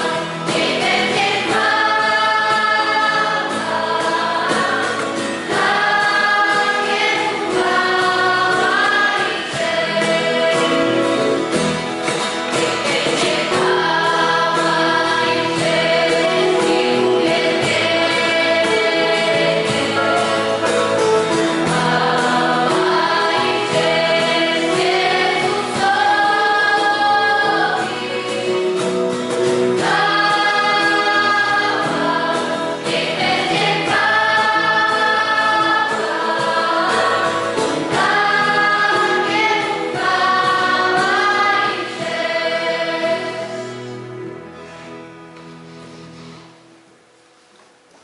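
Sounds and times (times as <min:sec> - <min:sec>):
choir singing a hymn: 0:00.0 - 0:44.6.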